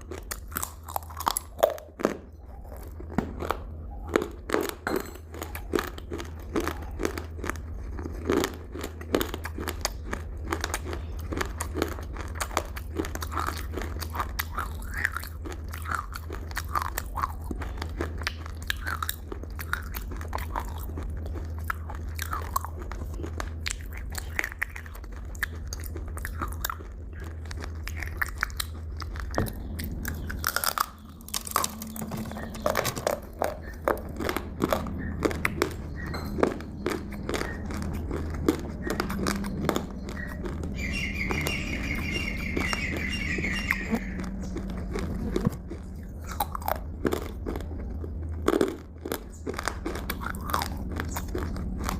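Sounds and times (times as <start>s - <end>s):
crunchy food chewing: 0.0s - 51.9s
steady low hum: 0.0s - 51.9s.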